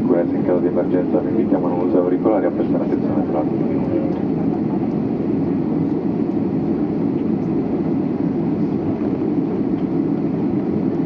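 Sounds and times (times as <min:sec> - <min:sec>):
airliner cabin low rumble: 0:00.0 - 0:11.0.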